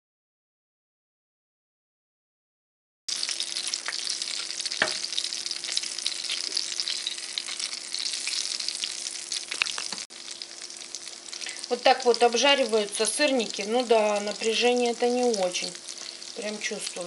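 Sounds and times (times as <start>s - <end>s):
pancakes sizzling in hot oil: 3.1s - 17.0s.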